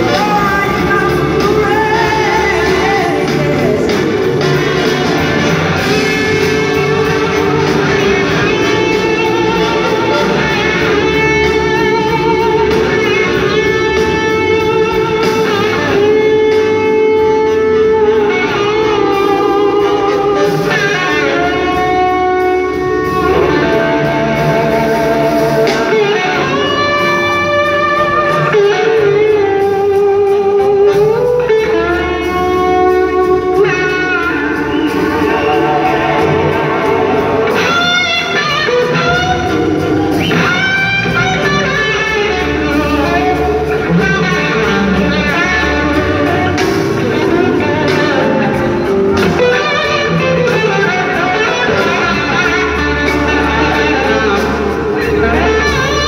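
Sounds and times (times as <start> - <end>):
blues-rock band playing: 0.0 - 56.0
electric guitar lead bending notes: 0.0 - 56.0.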